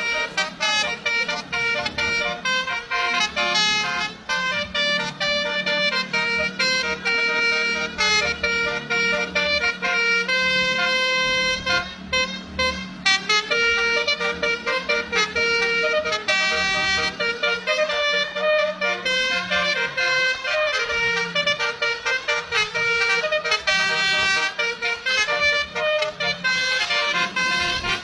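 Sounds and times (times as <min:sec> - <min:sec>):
bus horn playing a tune: 0:00.0 - 0:28.0.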